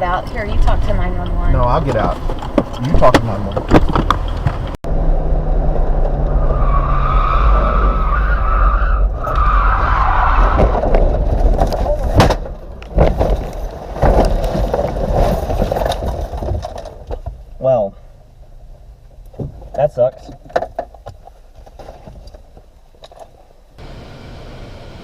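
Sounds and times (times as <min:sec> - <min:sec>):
car road and engine rumble: 0:00.0 - 0:25.0
tyres skidding and squealing: 0:00.1 - 0:20.5.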